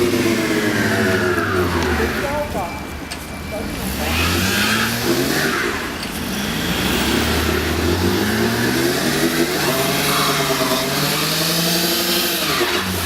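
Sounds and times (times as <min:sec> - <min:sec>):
car engine revving: 0:00.0 - 0:02.5, 0:03.6 - 0:13.0.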